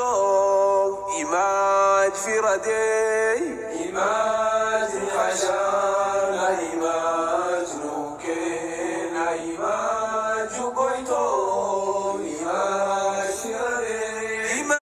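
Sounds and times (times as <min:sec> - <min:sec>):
person chanting long held notes: 0:00.0 - 0:14.8.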